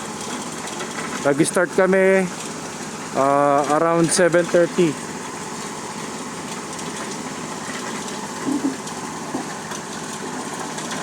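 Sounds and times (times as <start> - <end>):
concrete mixer running: 0.0 - 11.0.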